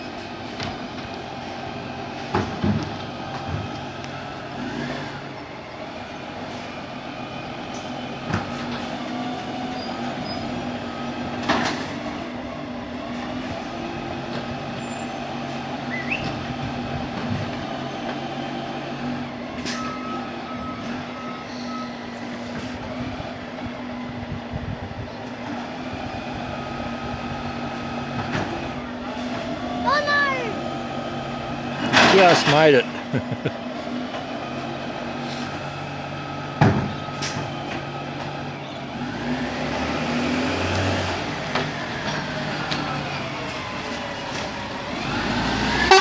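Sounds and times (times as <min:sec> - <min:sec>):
garbage truck engine running: 0:00.0 - 0:46.0.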